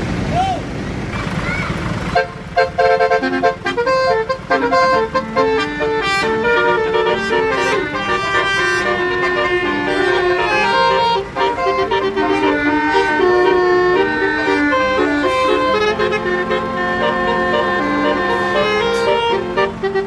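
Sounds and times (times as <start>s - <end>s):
musical bus horn playing a tune: 2.1s - 20.0s.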